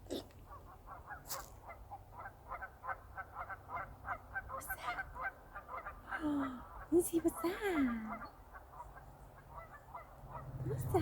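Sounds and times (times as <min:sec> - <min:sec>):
geese honking: 0:00.5 - 0:11.0.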